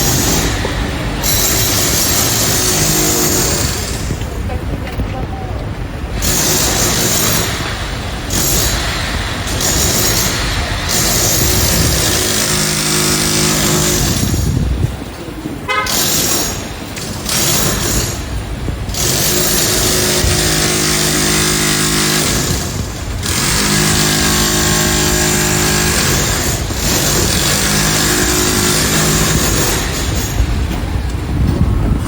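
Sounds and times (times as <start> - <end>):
pneumatic breaker hammering: 0.0 - 4.2, 6.2 - 14.8, 15.7 - 31.6.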